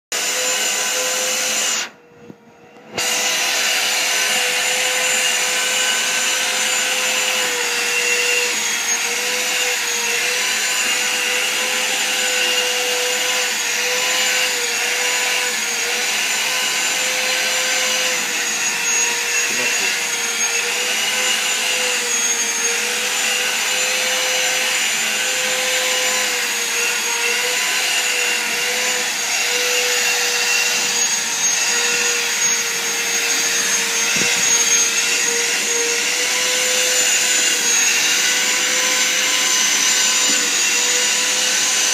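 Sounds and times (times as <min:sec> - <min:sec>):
vacuum cleaner running: 0:00.1 - 0:41.9.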